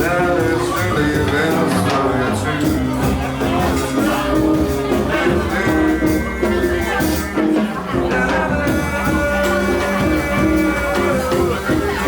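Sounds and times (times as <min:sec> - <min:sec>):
background pop music: 0:00.0 - 0:12.0.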